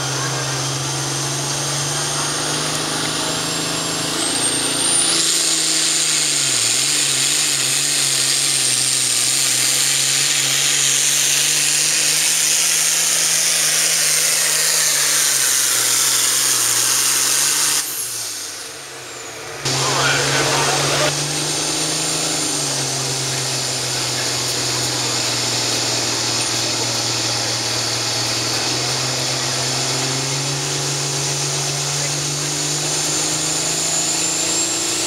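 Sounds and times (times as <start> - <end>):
diesel tractor engine under load: 0.0 - 35.0.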